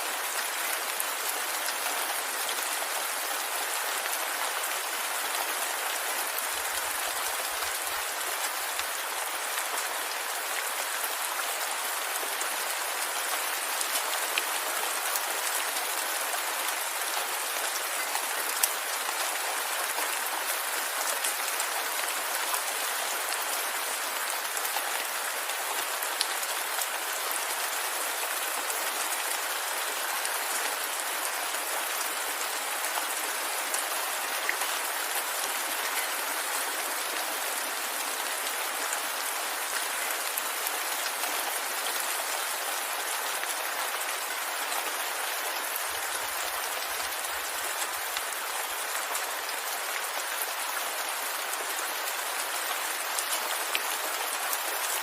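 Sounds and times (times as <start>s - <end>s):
rain pattering on a surface: 0.0s - 55.0s.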